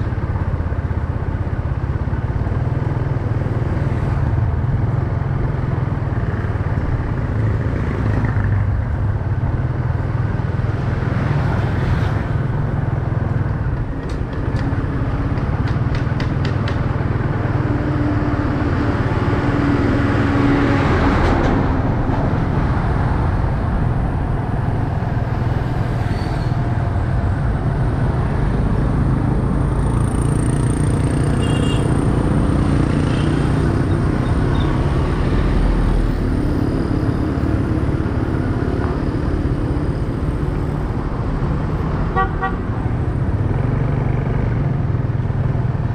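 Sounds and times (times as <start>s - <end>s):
road and traffic noise: 0.0s - 45.9s.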